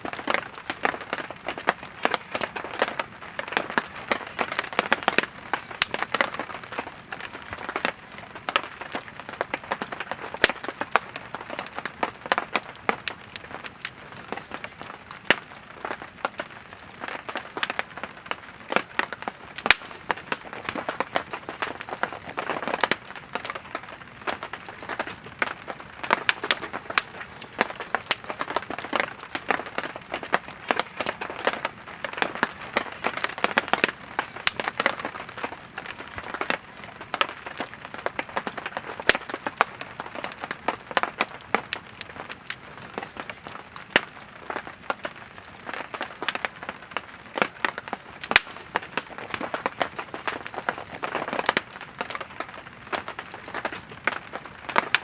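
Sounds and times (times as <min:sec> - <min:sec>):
campfire crackling and popping: 0:00.0 - 0:55.0
soft hiss of flames: 0:00.0 - 0:55.0.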